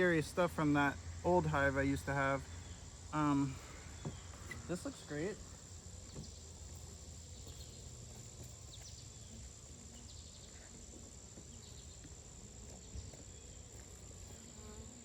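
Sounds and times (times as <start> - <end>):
honeybees droning: 0.0 - 15.0.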